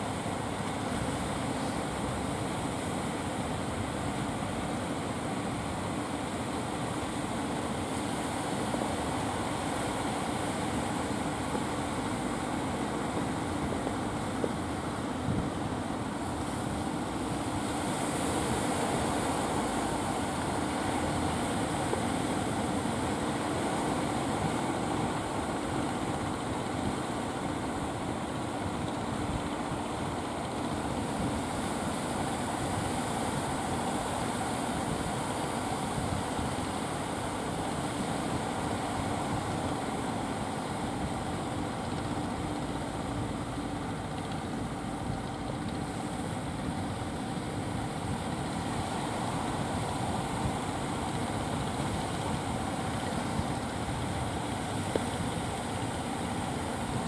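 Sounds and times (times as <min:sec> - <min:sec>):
noisy hiss: 0:00.0 - 0:57.0.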